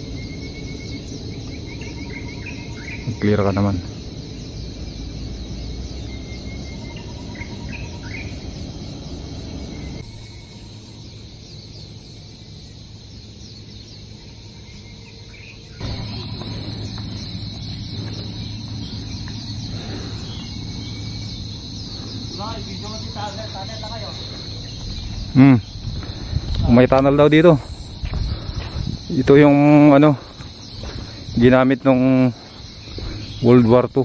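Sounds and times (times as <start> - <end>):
bird chirps: 0.0 - 34.0
insects chorus: 0.0 - 34.0.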